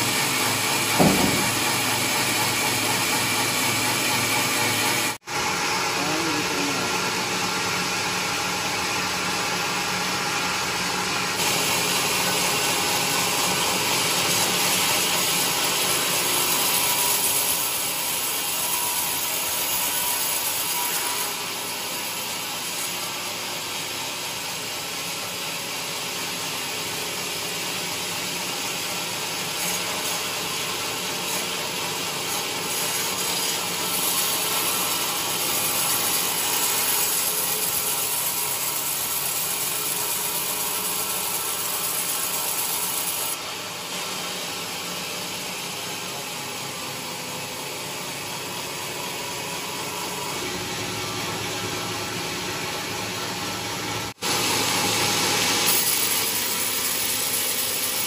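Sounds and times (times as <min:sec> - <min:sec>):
saw blade cutting log: 0:00.0 - 0:52.3, 0:53.0 - 0:58.0.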